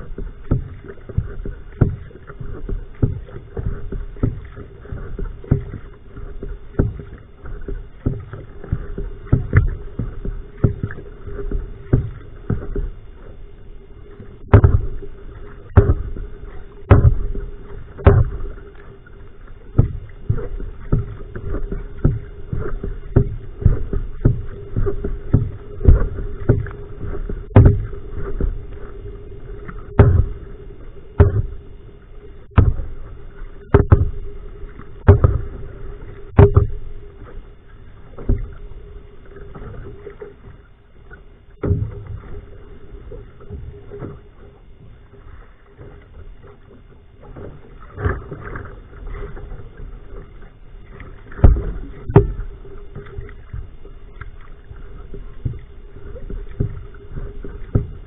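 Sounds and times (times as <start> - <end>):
paddle splashing: 0.0 - 58.0
water noise: 0.0 - 58.0.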